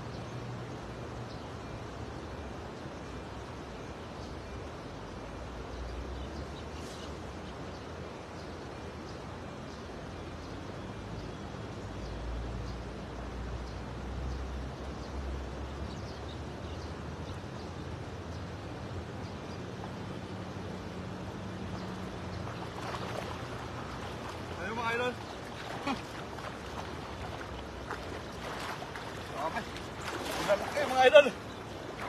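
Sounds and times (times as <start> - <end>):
small birds chirping: 2.8 - 32.0.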